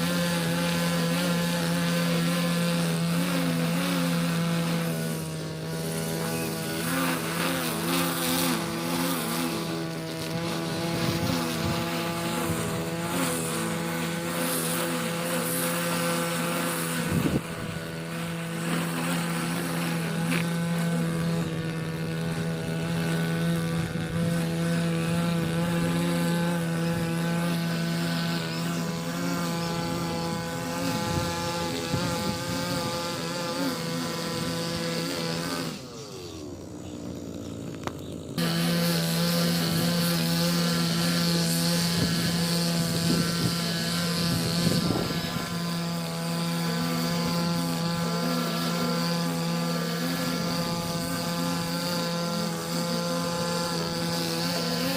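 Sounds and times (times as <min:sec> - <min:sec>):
lawn mower engine at high revs: 0:00.0 - 0:54.9.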